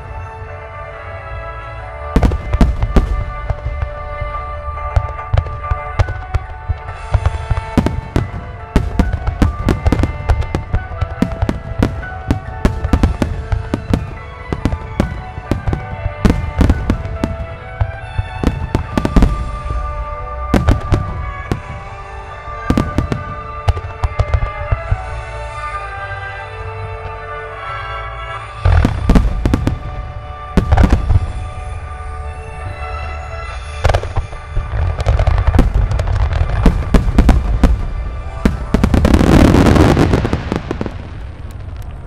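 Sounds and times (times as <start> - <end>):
music with long held notes: 0.0 - 42.0
fireworks bursting and crackling: 2.1 - 27.4, 28.5 - 42.0.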